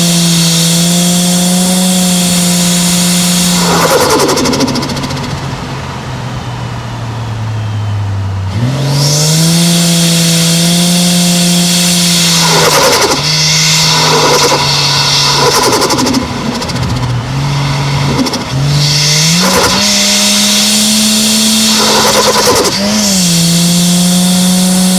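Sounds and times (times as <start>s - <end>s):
turbo flutter: 0.0s - 5.6s, 9.0s - 24.9s
car engine running: 0.0s - 24.9s.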